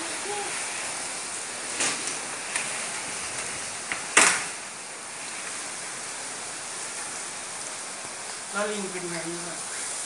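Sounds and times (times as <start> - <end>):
heavy storm rain: 0.0 - 10.0.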